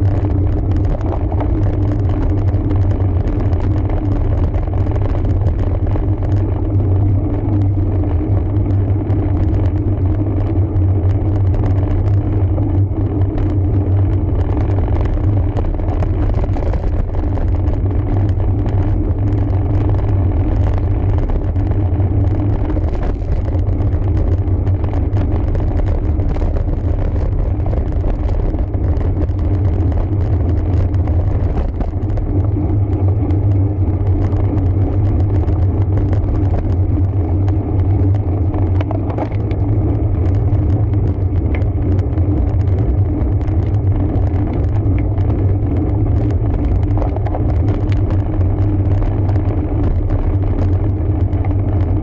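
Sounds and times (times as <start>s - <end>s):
bicycle tyre noise: 0.0s - 52.0s
wind rumble on microphone: 0.0s - 52.0s.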